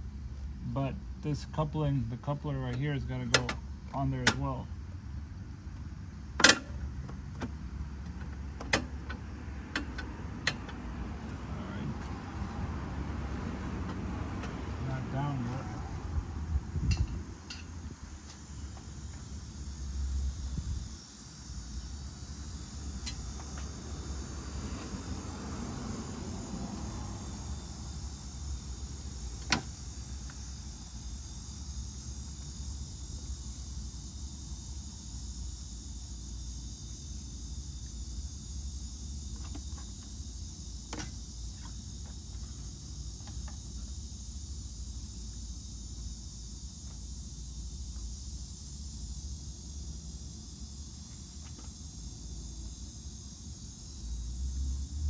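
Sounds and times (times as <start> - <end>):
steady high-pitched hiss: 0.0 - 12.7, 14.8 - 55.0.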